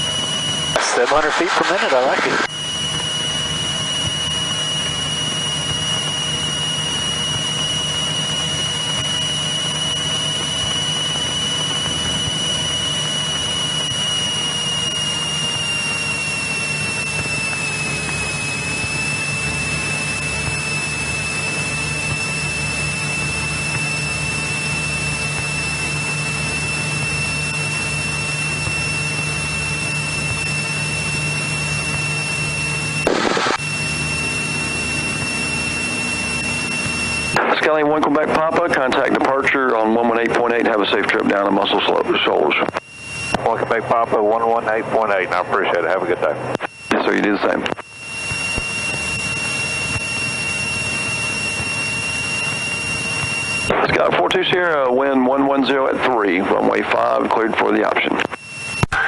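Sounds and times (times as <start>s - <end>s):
airplane engine drone: 0.0s - 59.0s
high whine: 0.0s - 59.0s.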